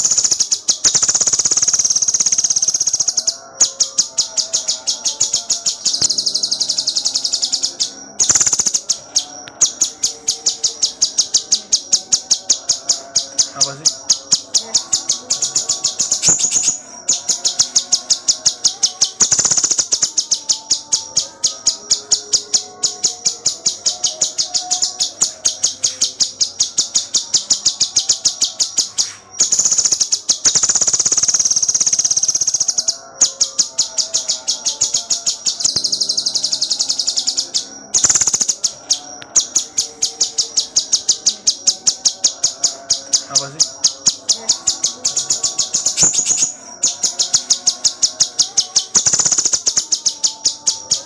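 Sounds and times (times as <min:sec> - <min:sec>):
bird singing sharp high chirps: 0:00.0 - 0:51.0.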